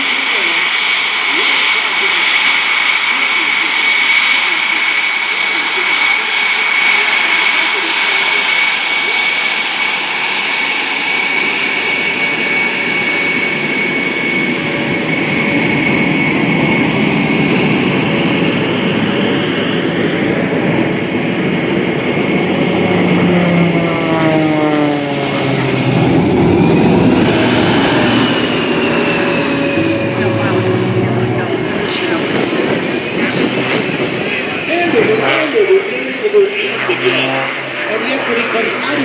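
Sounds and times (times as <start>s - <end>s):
plane engine and propeller drone: 0.0s - 39.0s.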